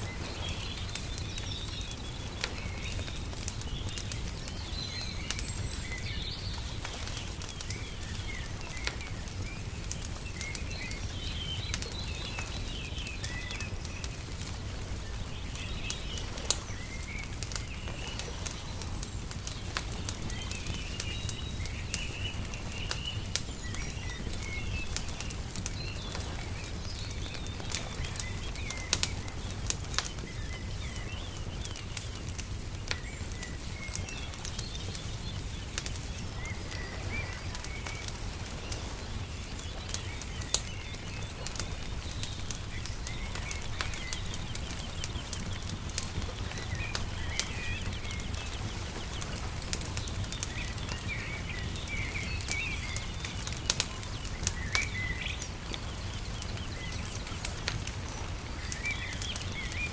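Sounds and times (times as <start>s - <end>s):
small birds chirping: 0.0s - 59.9s
wood fire crackling and popping: 0.0s - 59.9s.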